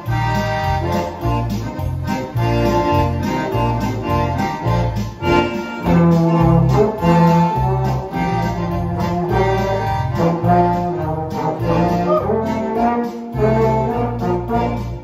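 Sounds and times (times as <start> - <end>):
polka band playing: 0.0 - 15.0.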